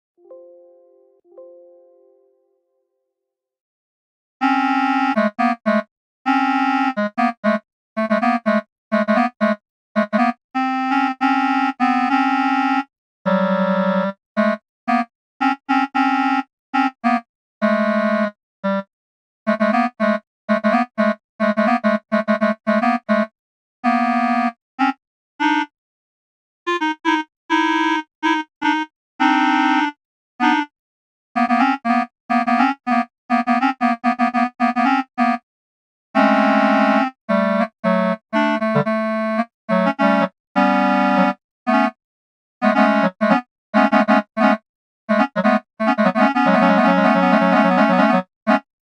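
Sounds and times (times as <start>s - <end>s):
synthesized clarinet notes: 4.4s - 18.9s, 19.5s - 25.7s, 26.7s - 30.7s, 31.4s - 35.4s, 36.2s - 42.0s, 42.6s - 48.7s.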